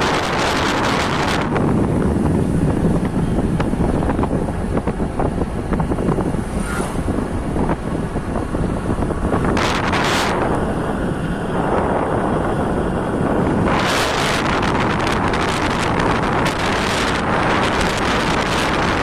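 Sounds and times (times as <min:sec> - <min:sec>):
road and vehicle noise: 0:00.0 - 0:19.0
wind buffeting microphone: 0:00.0 - 0:19.0.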